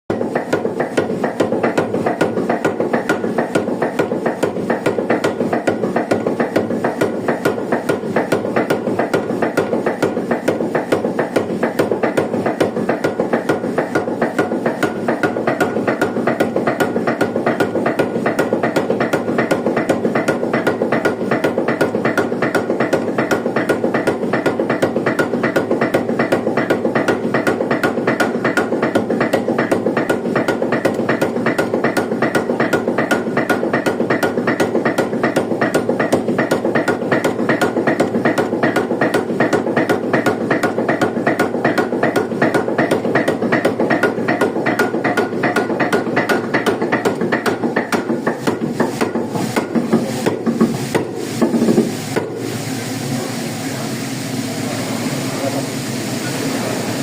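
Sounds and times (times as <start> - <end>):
trip hammer striking: 0.1 - 52.4.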